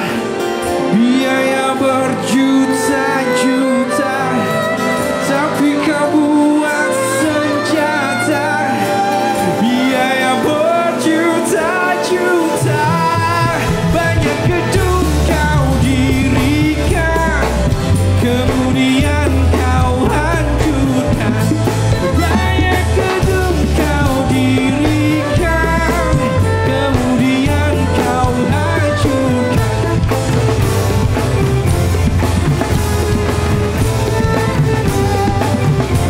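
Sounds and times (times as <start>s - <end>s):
man singing: 0.0s - 30.7s
band playing: 0.0s - 36.0s.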